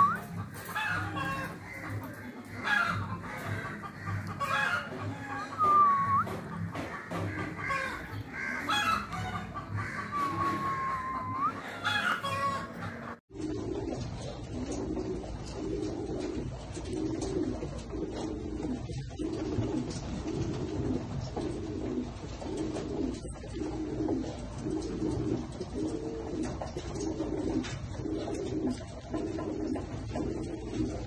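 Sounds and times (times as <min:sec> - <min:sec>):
pigeon cooing: 0:00.0 - 0:31.0.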